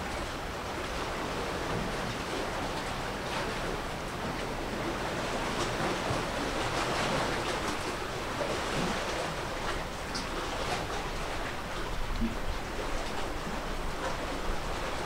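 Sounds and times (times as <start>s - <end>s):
sea waves washing: 0.0s - 15.0s
wind: 0.0s - 15.0s.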